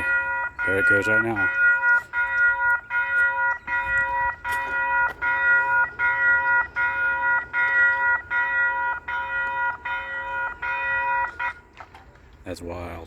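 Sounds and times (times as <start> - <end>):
rail crossing warning bell: 0.0 - 12.0.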